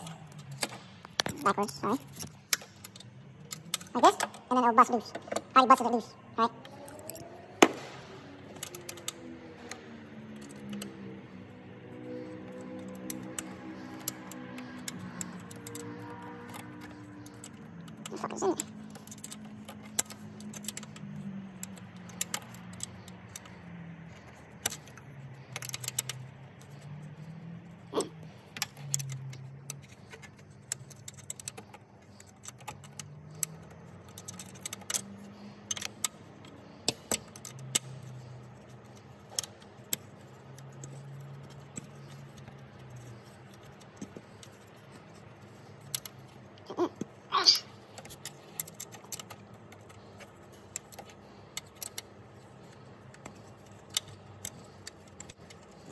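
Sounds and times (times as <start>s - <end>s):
metal tools and fasteners clinking: 0.0s - 5.9s, 8.5s - 55.9s.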